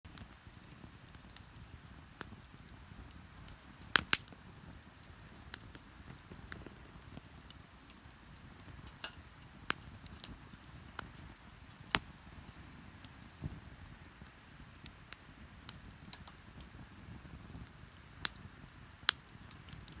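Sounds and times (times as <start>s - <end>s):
sharp pops of burning wood: 0.1s - 20.0s
wood bonfire crackling: 0.1s - 20.0s.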